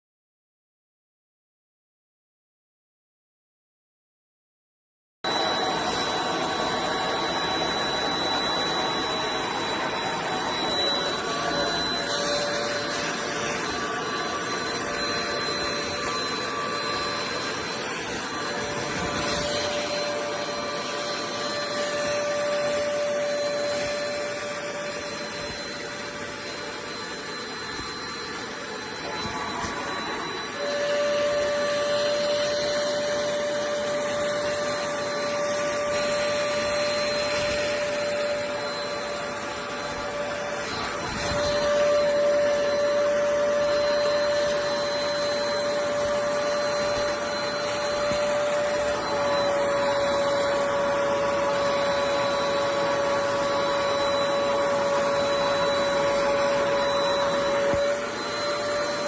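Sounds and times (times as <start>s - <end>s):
spot cleaner suction motor whine: 5.3s - 59.0s.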